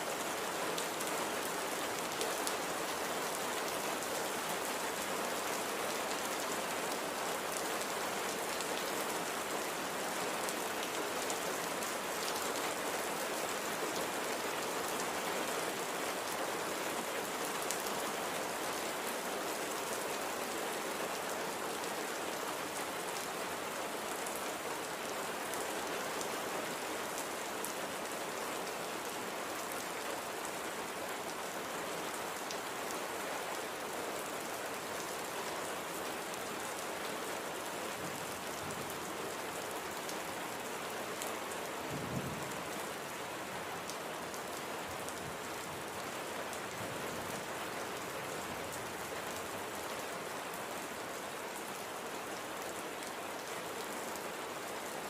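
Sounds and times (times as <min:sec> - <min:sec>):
light rain falling: 0:00.0 - 0:55.0.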